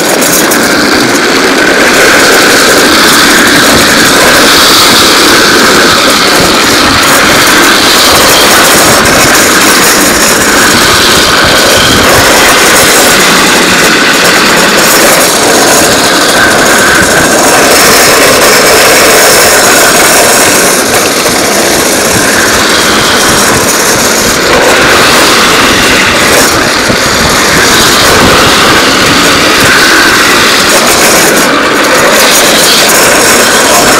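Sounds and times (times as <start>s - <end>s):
wheels rolling on asphalt: 0.0s - 33.9s
wind: 0.0s - 33.9s.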